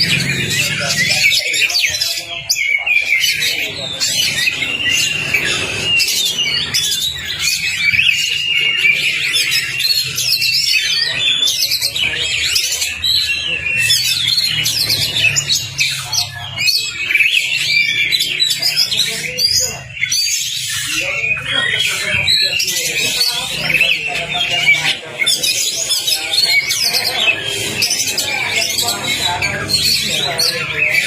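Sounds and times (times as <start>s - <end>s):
magpie-robin singing: 0.0s - 31.0s.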